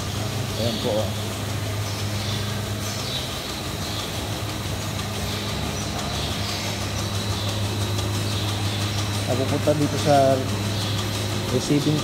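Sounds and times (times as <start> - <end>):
milking machinery humming: 0.0 - 12.0.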